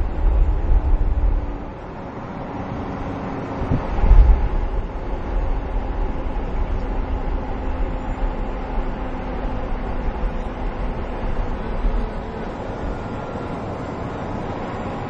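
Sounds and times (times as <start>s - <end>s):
truck engine rumbling on road: 0.0s - 15.0s.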